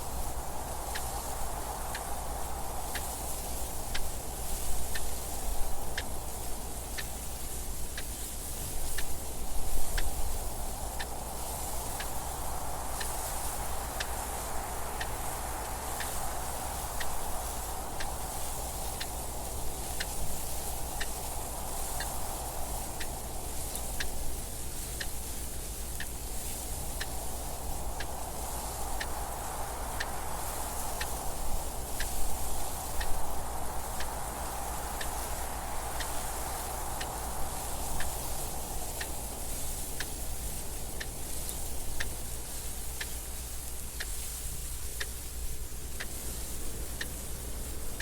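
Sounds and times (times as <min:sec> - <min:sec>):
rushing wind: 0:00.0 - 0:48.0.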